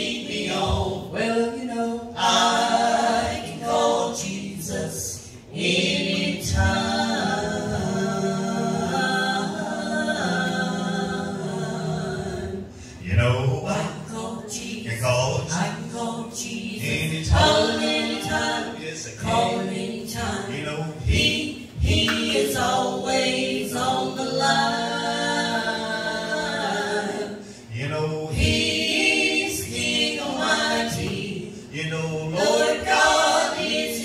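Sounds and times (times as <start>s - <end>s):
gospel group singing in harmony: 0.0s - 34.0s.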